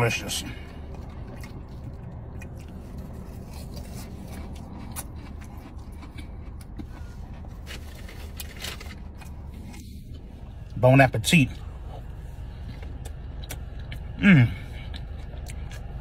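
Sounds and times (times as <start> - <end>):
car interior hum: 0.0 - 16.0
person chewing food: 0.5 - 10.8, 11.5 - 16.0.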